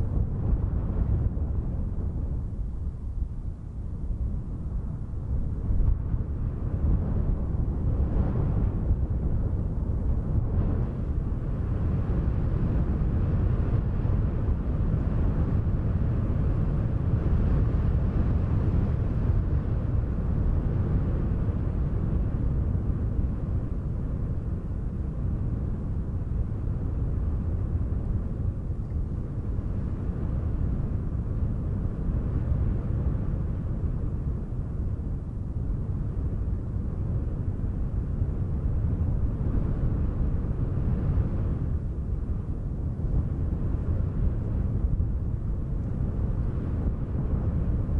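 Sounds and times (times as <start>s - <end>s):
low rumble of wind: 0.0s - 47.9s.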